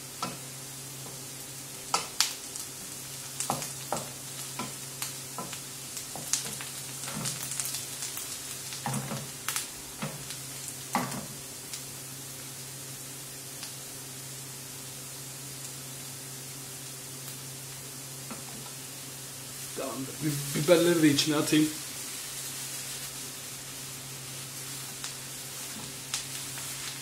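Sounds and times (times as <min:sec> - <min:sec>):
frying hiss: 0:00.0 - 0:27.0.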